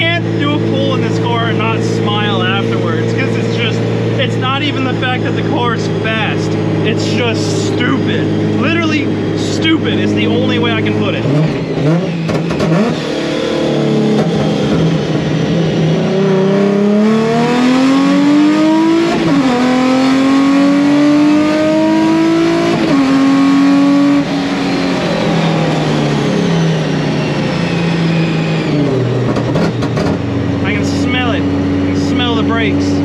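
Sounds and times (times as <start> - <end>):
car engine accelerating hard: 0.0 - 33.0.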